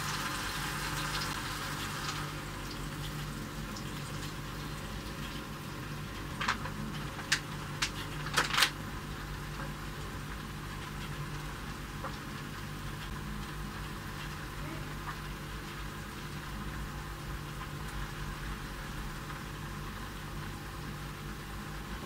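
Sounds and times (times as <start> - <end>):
eggs sizzling in a frying pan: 0.0 - 22.0
steady low hum: 0.0 - 22.0.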